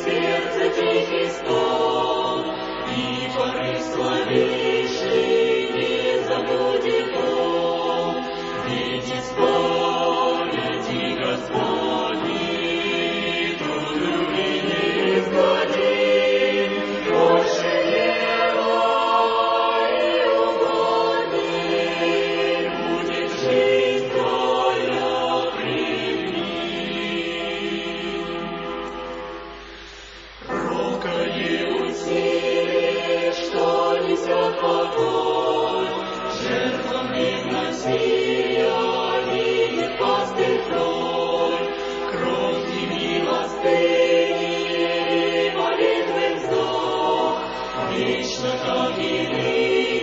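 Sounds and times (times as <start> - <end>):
choir singing held chords: 0.0 - 50.0.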